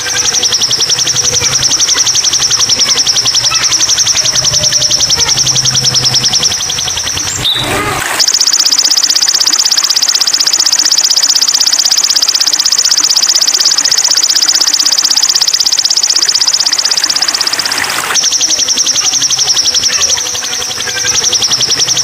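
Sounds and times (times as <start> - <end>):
bird singing high trill: 0.0 - 22.0.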